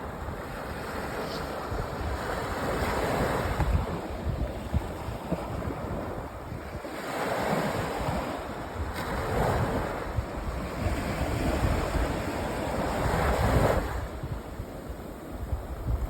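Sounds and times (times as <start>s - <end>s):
waves breaking on sand beach: 0.0s - 16.0s
wind buffeting microphone: 0.0s - 16.0s.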